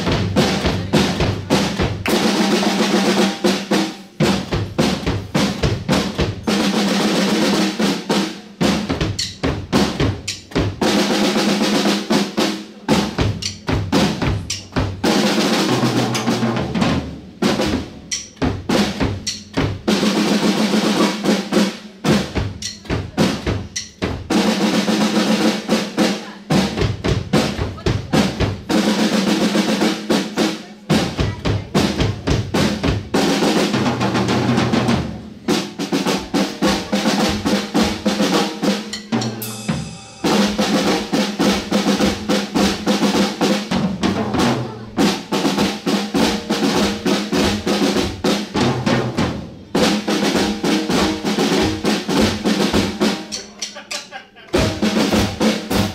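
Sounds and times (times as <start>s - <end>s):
drum kit played fast: 0.0s - 55.9s.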